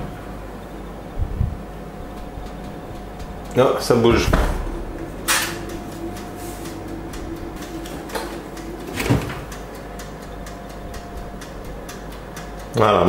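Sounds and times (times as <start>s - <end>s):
fan oven humming: 0.0s - 13.0s
oven knock: 2.0s - 12.6s.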